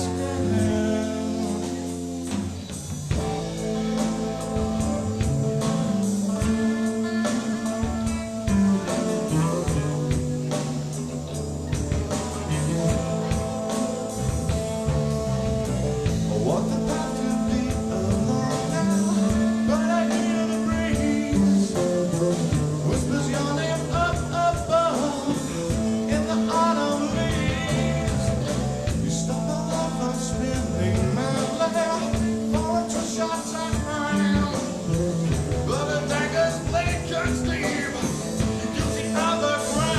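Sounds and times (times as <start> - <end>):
bass line: 0.0 - 39.9
live rock band: 0.0 - 39.9
person singing: 0.0 - 39.9.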